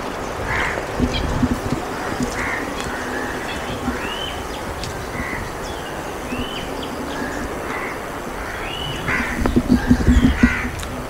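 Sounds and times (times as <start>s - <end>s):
birds calling: 0.0s - 11.0s
steady hiss: 0.0s - 11.0s.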